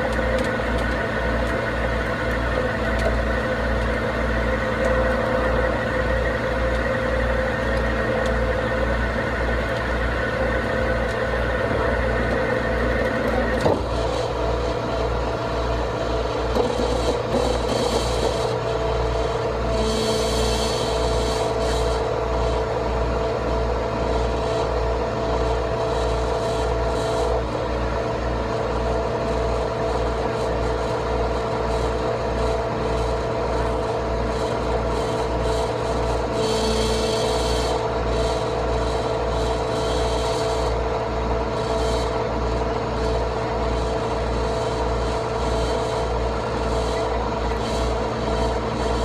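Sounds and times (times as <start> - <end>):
truck diesel engine throbbing: 0.0 - 49.0.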